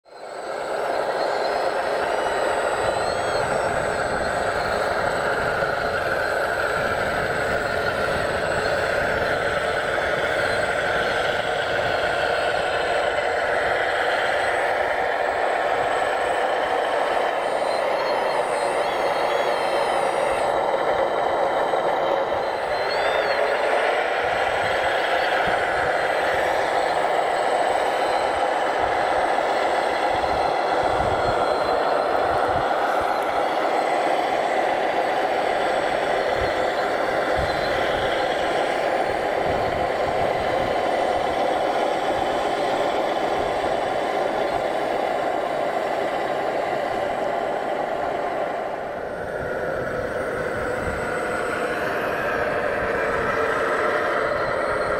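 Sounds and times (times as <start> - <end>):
toy machine motor whirring: 0.2 - 54.9.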